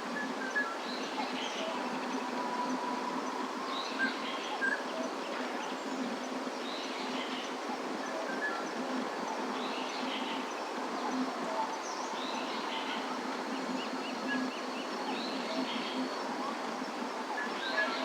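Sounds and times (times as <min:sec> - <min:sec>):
steady outdoor noise: 0:00.0 - 0:18.0.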